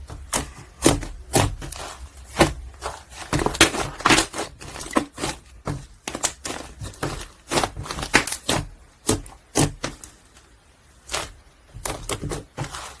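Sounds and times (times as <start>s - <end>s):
foam slime squished by hand: 0.0s - 13.0s.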